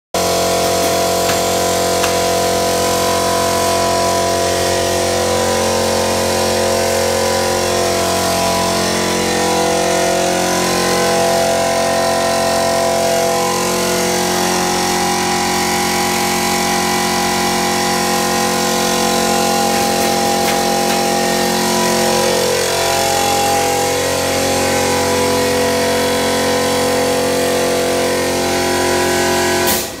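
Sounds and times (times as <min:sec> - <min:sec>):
conveyor motor humming: 0:00.2 - 0:05.6, 0:07.2 - 0:26.5.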